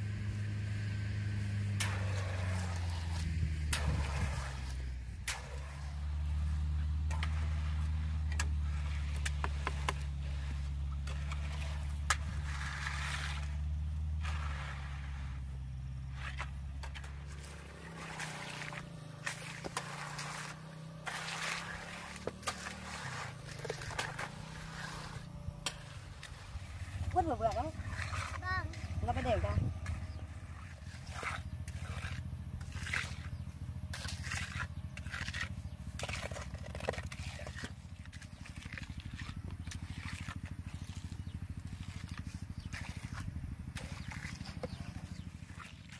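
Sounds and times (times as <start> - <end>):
engine running: 0.0 - 45.9
knocks and scraping: 0.0 - 45.9.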